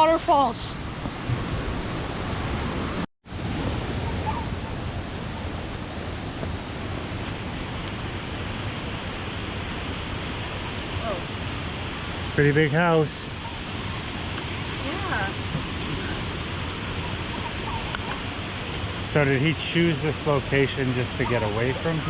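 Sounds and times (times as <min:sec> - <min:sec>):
small waterfall rushing: 0:00.0 - 0:22.0.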